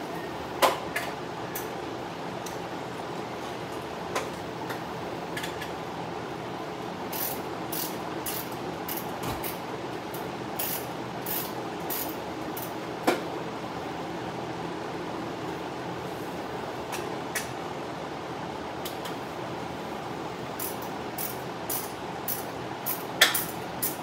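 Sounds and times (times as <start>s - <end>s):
drum fan whirring: 0.0s - 24.0s.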